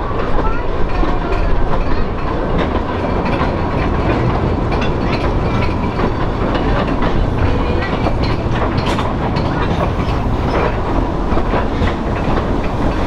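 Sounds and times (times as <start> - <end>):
train wheels rumbling on rails: 0.0 - 13.0
clicks and rattles: 0.2 - 13.0.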